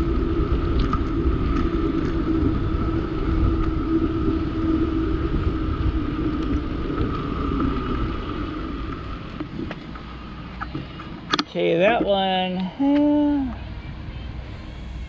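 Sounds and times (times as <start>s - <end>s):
bicycle riding rumble: 0.0s - 15.0s
constant hum: 0.0s - 15.0s
wind noise: 0.0s - 15.0s.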